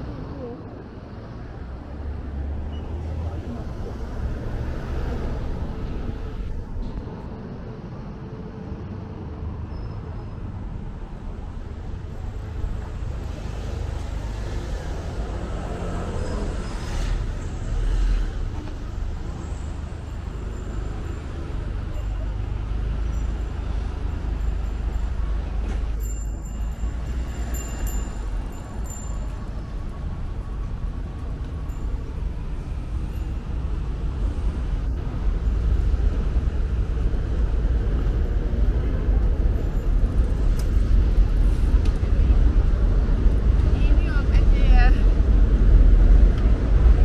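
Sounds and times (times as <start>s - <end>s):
street traffic rumbling: 0.0s - 47.0s.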